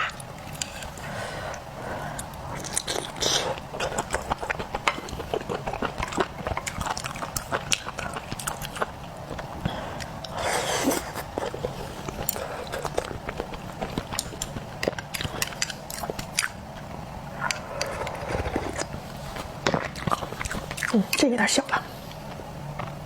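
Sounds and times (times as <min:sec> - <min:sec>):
person chewing seafood: 0:00.0 - 0:21.0.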